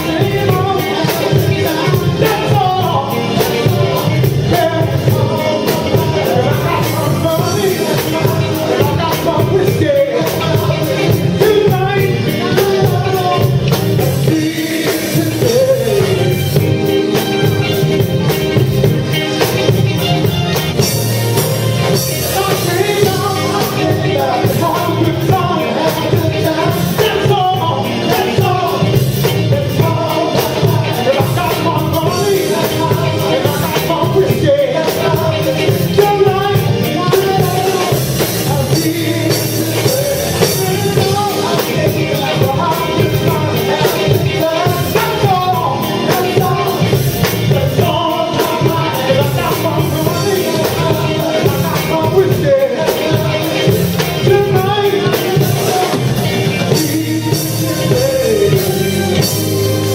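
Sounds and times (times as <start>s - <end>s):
live band with singing: 0.0s - 59.9s.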